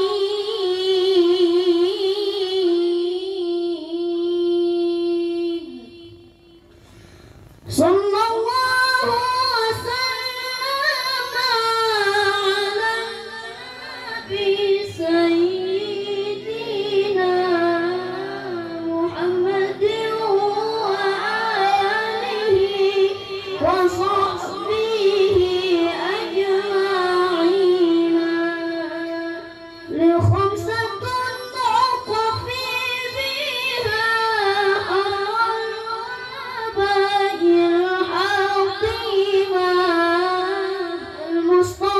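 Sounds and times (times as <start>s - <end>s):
child reciting melodically: 7.7s - 41.9s.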